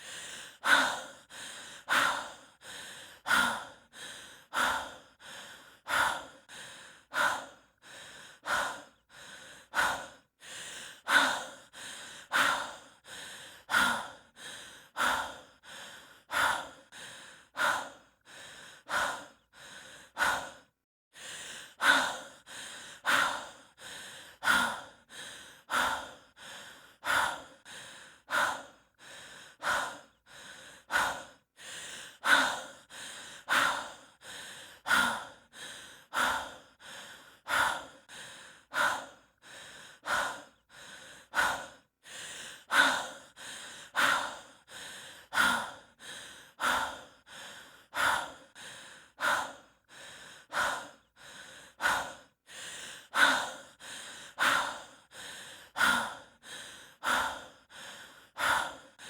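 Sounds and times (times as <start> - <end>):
person breathing heavily: 0.0 - 59.0.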